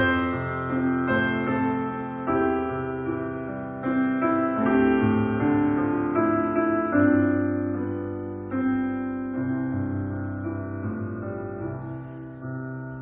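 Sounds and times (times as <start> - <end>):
slow solo piano chords: 0.0 - 13.0.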